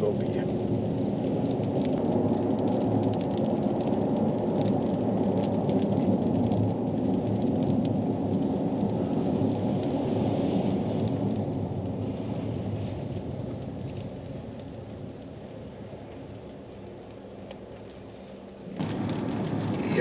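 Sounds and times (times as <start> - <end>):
vehicle interior rumble: 0.0 - 20.0.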